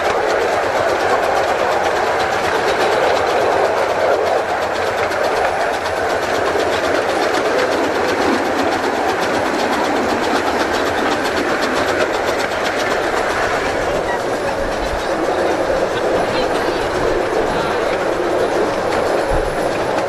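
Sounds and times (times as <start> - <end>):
steam train rushing: 0.0 - 20.0
fast even ticking: 0.2 - 20.0.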